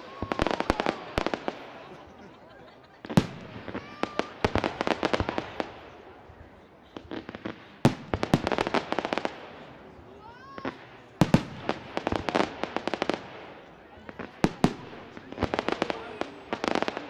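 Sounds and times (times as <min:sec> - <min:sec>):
firework crackling: 0:00.0 - 0:02.2, 0:02.8 - 0:06.2, 0:07.0 - 0:17.0.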